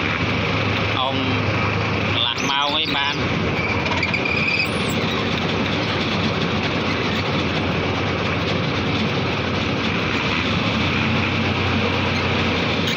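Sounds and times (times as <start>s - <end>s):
motorboat engine running: 0.0s - 12.9s
wind: 0.0s - 12.9s.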